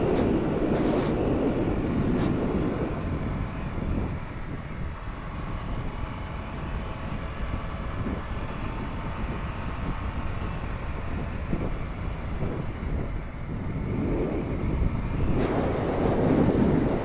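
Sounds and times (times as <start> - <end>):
atv engine running: 0.0 - 17.0
wind buffeting microphone: 0.0 - 17.0.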